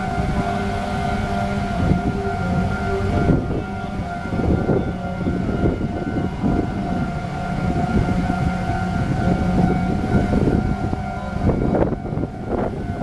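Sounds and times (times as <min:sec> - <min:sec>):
crossing warning signal tones: 0:00.0 - 0:13.0
train wheels rumbling on rail: 0:00.0 - 0:13.0.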